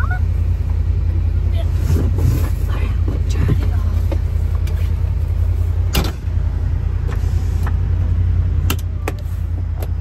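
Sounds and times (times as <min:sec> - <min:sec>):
utility vehicle engine idling: 0:00.0 - 0:10.0.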